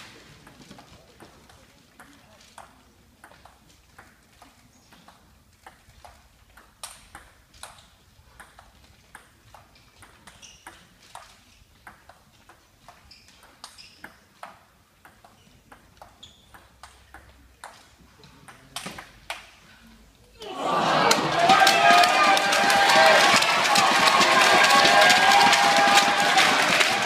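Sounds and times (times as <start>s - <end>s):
table tennis ball hitting bats and table: 0.4s - 19.6s, 21.1s - 27.0s.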